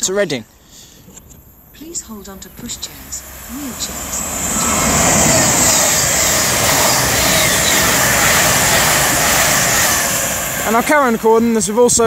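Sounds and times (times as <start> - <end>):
diesel train passing at speed: 0.6 - 12.0.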